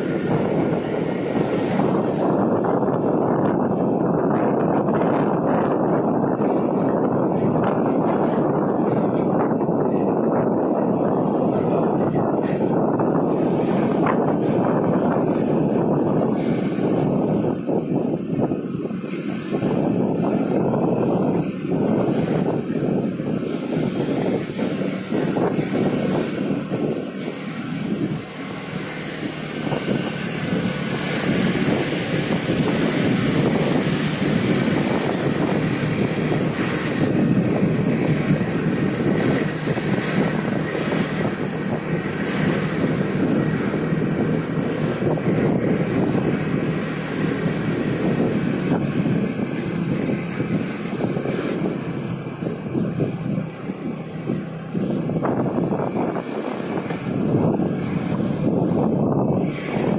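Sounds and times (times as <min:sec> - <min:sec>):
car engine and tyre rumble: 0:00.0 - 0:59.9
wind noise on microphone: 0:00.0 - 0:59.9.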